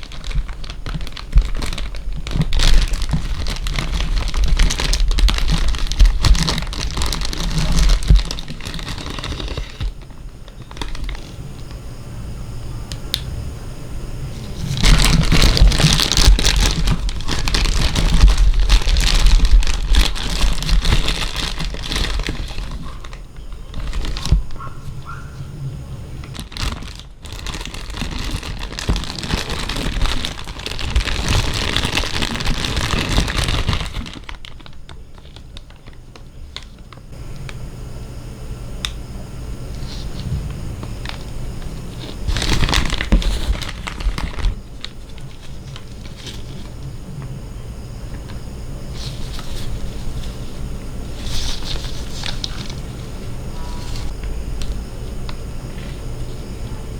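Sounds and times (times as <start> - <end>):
plastic packaging crinkling: 0.0 - 13.2, 14.2 - 37.7, 38.8 - 56.8.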